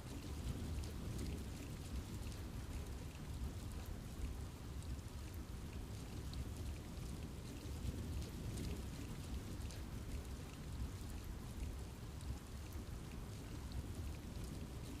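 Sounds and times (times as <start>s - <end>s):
rain falling in forest: 0.0s - 15.0s.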